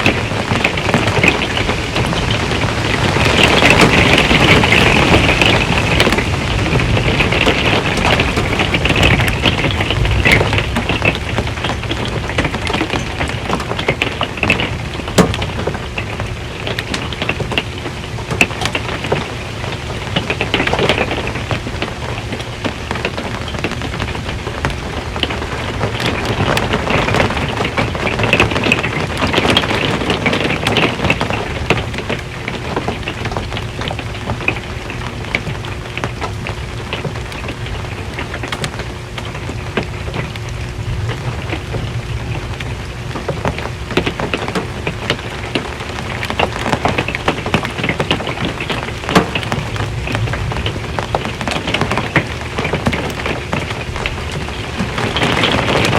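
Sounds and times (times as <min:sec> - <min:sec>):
rain on a metal roof: 0:00.0 - 0:55.9.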